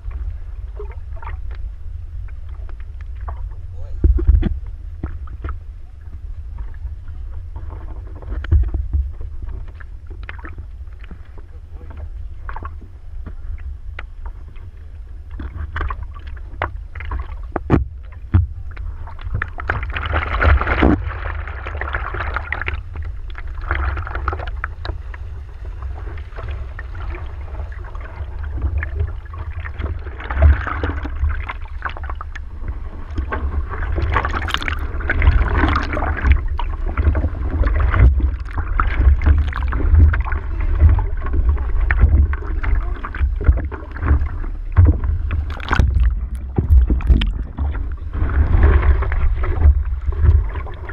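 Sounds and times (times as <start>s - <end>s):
steady low rumble: 0.0s - 50.9s
water splashing against surfboard: 0.0s - 50.9s.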